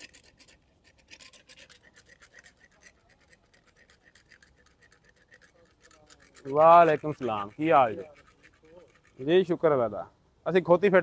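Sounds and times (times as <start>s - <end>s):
metal rasp scraping teeth: 0.0s - 9.7s.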